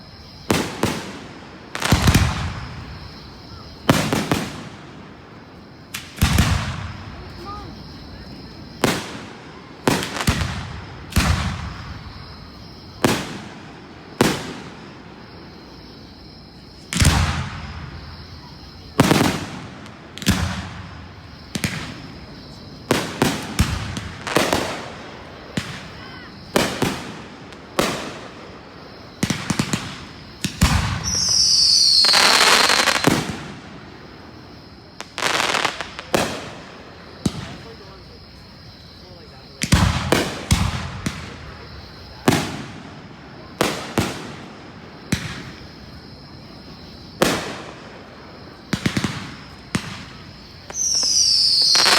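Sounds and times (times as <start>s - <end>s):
fireworks crackle with whistles: 0.0s - 51.9s.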